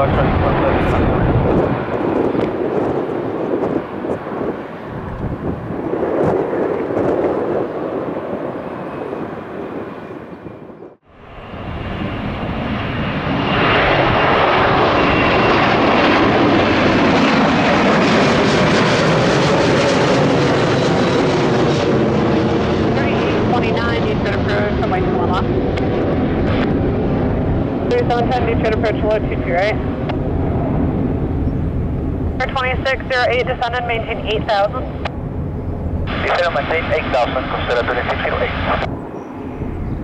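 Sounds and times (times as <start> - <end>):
jet engine roar on arrival: 0.0 - 40.0
jet engines rumbling: 0.0 - 40.0.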